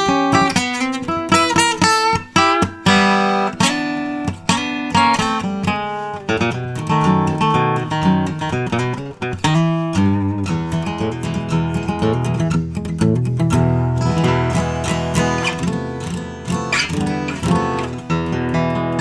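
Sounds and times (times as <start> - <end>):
acoustic guitar picking and strumming: 0.0 - 19.0.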